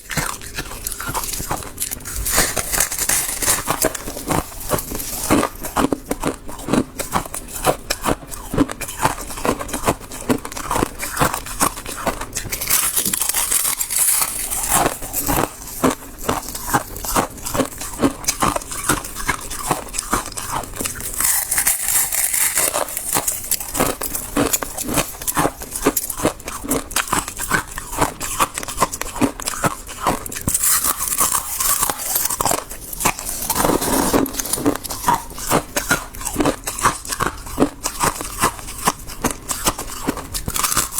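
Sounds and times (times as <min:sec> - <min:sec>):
frost being chewed: 0:00.0 - 0:40.9.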